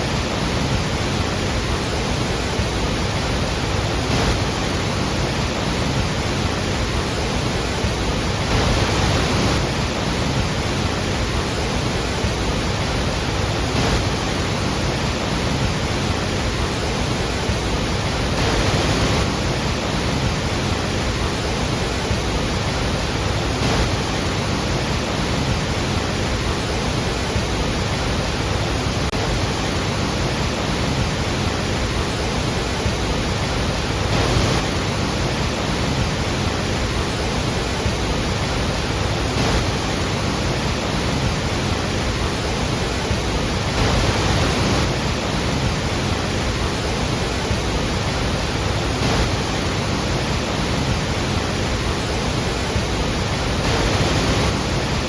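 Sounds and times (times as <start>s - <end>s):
waterfall crashing: 0.0s - 55.0s.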